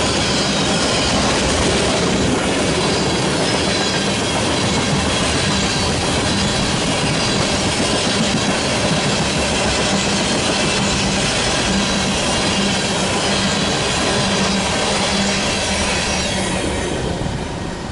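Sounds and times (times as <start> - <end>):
train wheels rolling on rails: 0.0 - 17.9.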